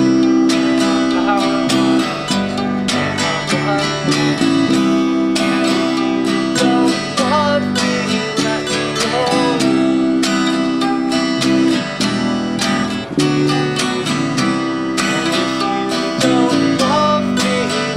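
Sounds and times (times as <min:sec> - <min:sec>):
strummed acoustic guitar: 0:00.0 - 0:17.9.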